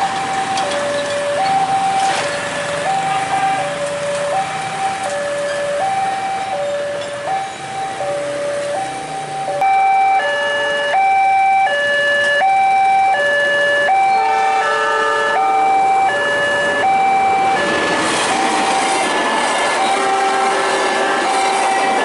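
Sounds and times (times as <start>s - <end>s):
passing train: 0.0s - 22.0s
two-tone crossing alarm: 0.0s - 22.0s.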